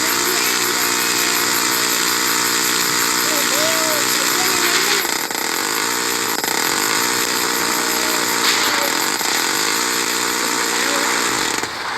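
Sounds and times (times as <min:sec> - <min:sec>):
propeller plane engine buzzing: 0:00.0 - 0:11.9.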